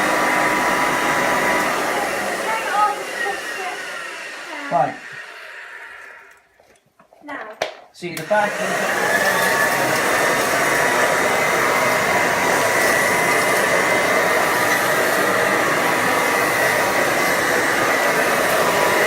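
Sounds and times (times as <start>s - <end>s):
vacuum cleaner running: 0.0s - 6.5s, 8.0s - 19.0s.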